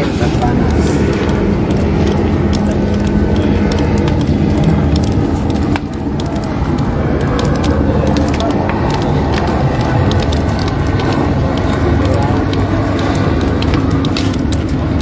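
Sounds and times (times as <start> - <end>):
fire rumbling and crackling: 0.0 - 15.0.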